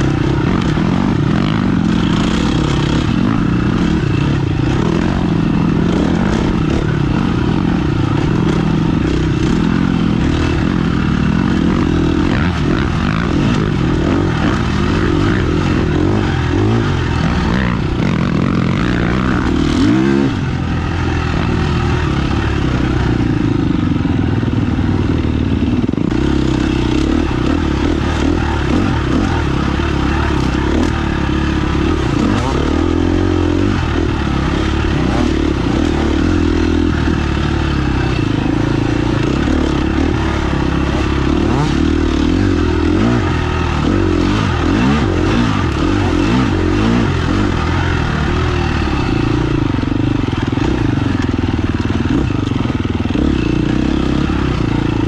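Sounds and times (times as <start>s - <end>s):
off-road motorcycle engine: 0.0s - 55.0s.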